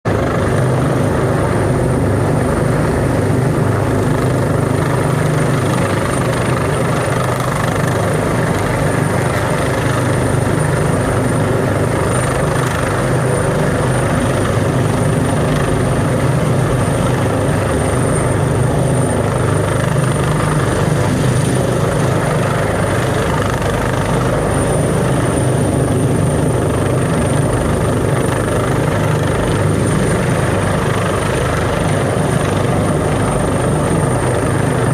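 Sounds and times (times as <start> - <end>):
helicopter hovering: 0.0 - 34.9.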